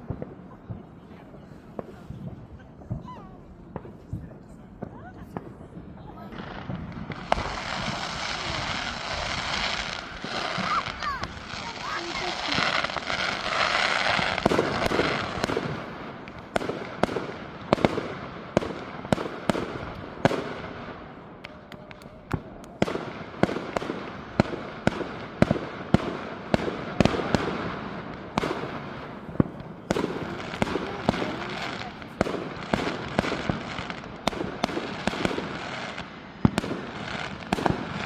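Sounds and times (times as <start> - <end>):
firework hiss: 6.3 - 38.0.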